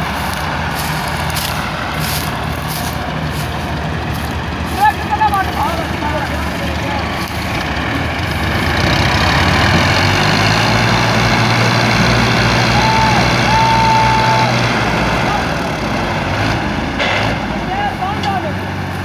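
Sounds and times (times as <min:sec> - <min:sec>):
diesel tractor engine straining: 0:00.0 - 0:19.0.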